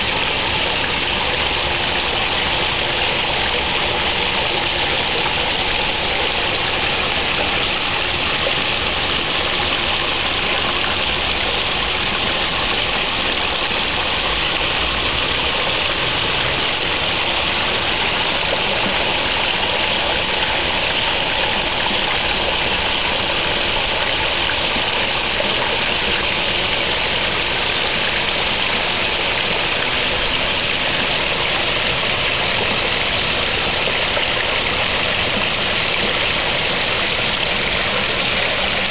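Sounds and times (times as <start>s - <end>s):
water splashing into pond: 0.0s - 38.9s.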